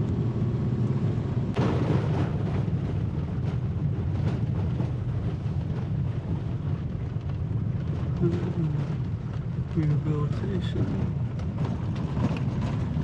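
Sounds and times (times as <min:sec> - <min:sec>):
vehicle rumbling on gravel road: 0:00.0 - 0:13.0
vehicle jolting knocks: 0:01.6 - 0:13.0.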